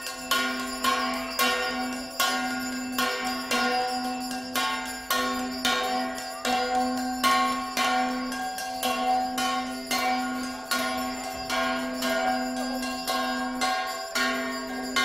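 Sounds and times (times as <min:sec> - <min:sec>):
temple bell ringing: 0:00.0 - 0:15.0.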